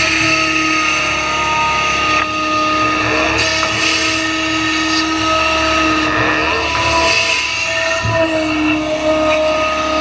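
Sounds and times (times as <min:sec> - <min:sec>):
steady whining tones: 0:00.0 - 0:10.0.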